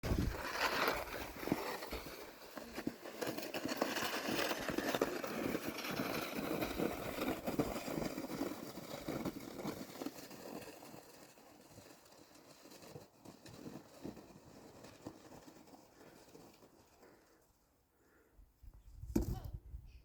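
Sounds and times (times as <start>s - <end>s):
snow shovel scraping snow: 0.0s - 17.4s.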